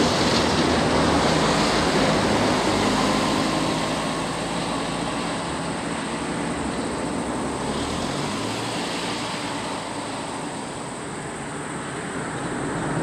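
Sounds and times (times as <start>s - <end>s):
traffic engine noise: 0.0s - 13.0s.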